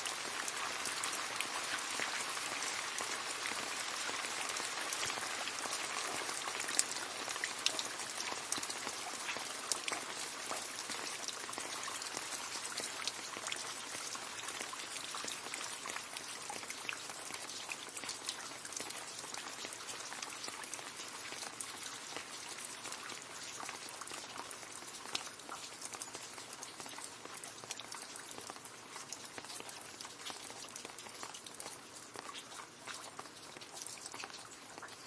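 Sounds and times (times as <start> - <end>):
rain falling into puddle: 0.0 - 35.0.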